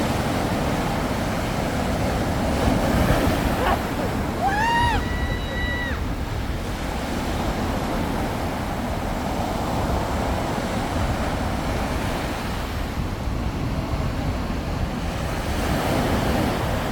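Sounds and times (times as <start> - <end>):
sea waves washing on shore: 0.0 - 16.9
wind rumbling on microphone: 0.0 - 16.9.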